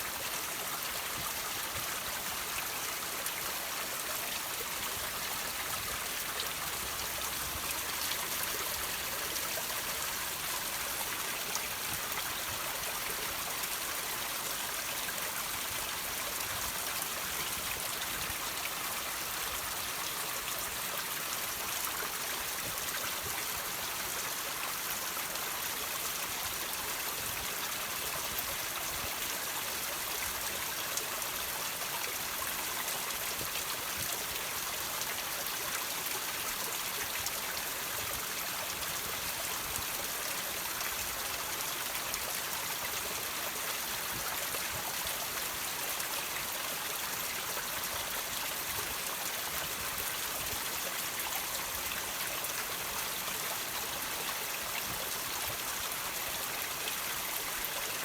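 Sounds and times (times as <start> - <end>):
water trickling over rocks: 0.0 - 58.0.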